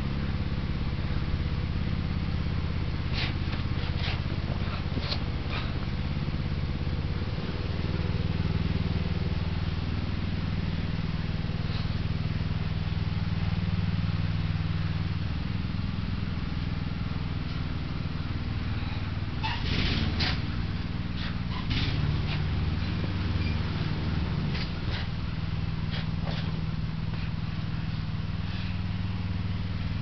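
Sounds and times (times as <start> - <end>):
engine droning: 0.0 - 30.0.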